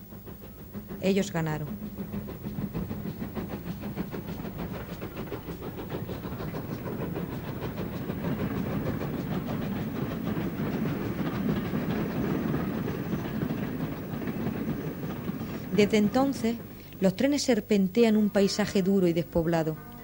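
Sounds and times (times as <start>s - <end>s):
train wheels clicking over rail joints: 0.0s - 19.5s
train rumble: 0.0s - 20.0s.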